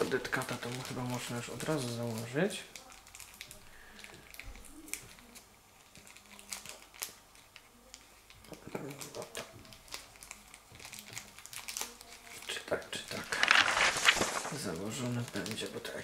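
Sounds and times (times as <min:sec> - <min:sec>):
paper crinkling: 0:00.0 - 0:15.7.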